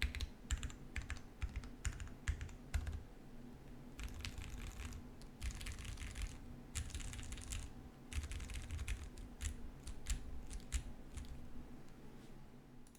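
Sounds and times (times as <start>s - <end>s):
typing on mechanical keyboard: 0.0s - 3.0s, 4.0s - 11.4s.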